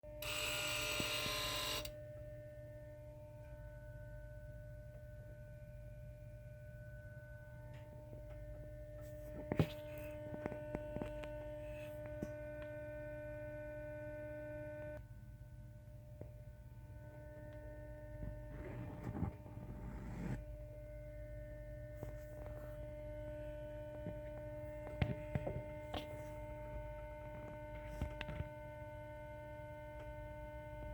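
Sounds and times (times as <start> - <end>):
steady electrical hum: 0.1 - 30.9.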